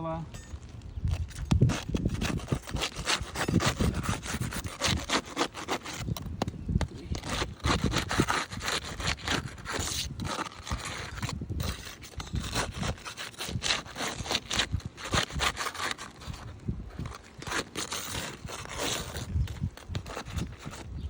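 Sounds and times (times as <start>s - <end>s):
metal tool scraping roof shingles: 0.3s - 21.0s.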